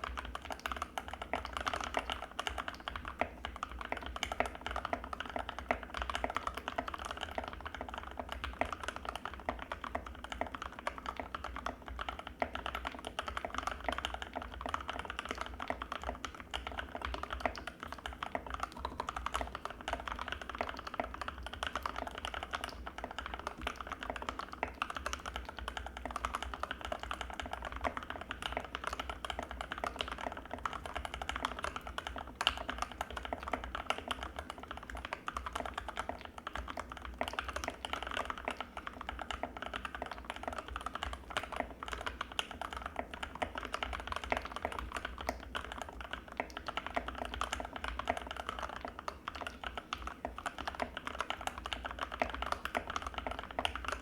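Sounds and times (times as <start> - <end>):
fast mechanical keyboard typing: 0.0 - 54.0.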